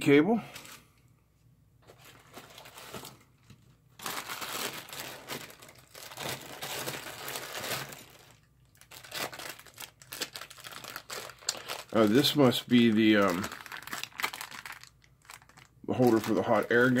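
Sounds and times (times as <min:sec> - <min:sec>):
plastic packaging crinkling: 0:01.8 - 0:17.0.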